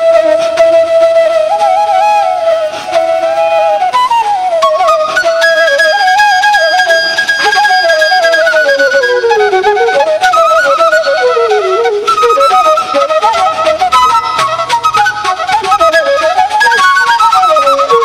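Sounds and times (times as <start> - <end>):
instrumental music with light percussion: 0.0 - 18.0.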